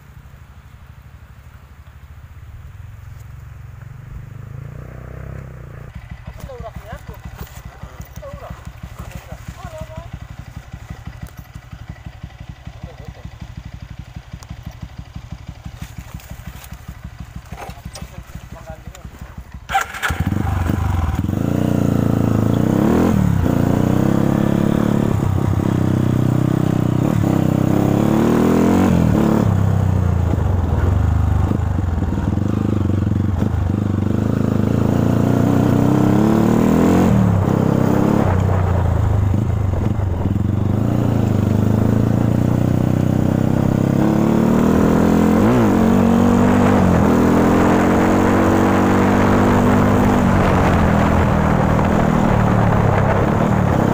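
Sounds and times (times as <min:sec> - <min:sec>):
motorcycle engine revving: 0:02.8 - 0:53.9.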